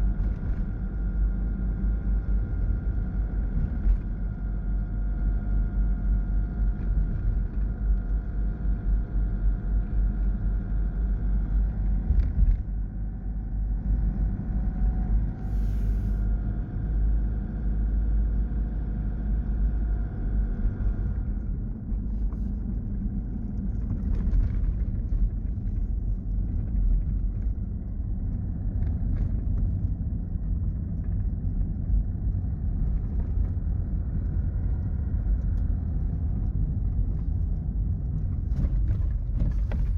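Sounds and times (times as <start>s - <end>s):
engine and tyre rumble: 0.0s - 39.9s
faint whine: 0.0s - 39.9s.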